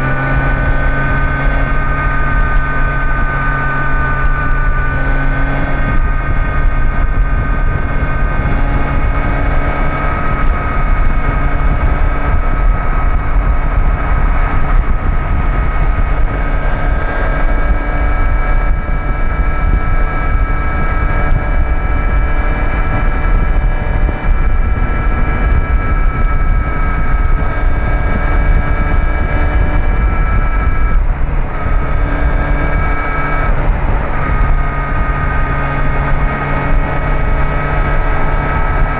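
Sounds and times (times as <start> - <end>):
motorcycle engine cruising: 0.0 - 38.9
wind rumble: 0.0 - 38.9.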